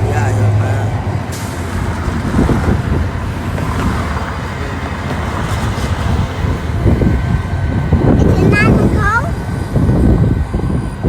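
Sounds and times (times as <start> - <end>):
road traffic: 0.0 - 11.0
wind rumbling on microphone: 0.0 - 11.0.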